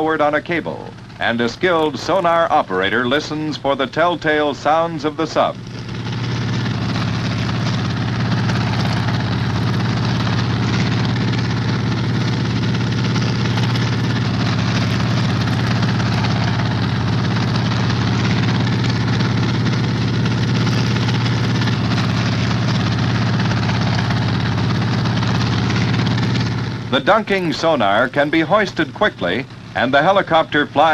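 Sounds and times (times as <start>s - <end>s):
helicopter engine and rotor drone: 0.0s - 30.9s.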